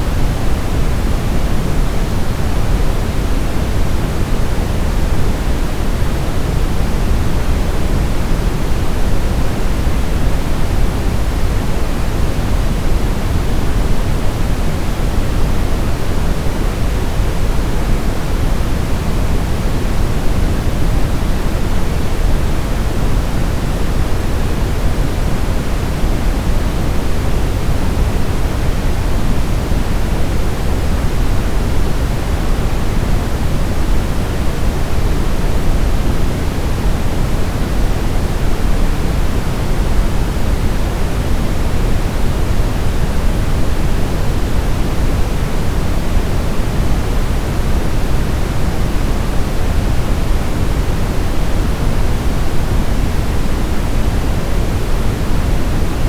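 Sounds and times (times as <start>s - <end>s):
steady low hiss noise: 0.0s - 56.0s.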